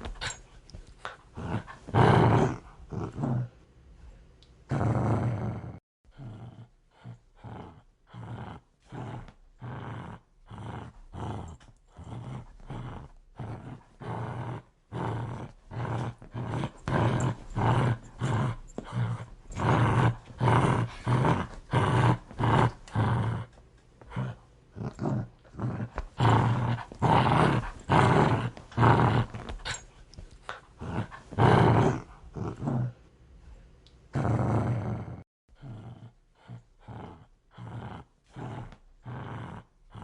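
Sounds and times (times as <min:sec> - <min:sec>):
dog growling: 0:01.0 - 0:03.6, 0:04.7 - 0:29.9, 0:30.5 - 0:33.0, 0:34.1 - 0:40.0.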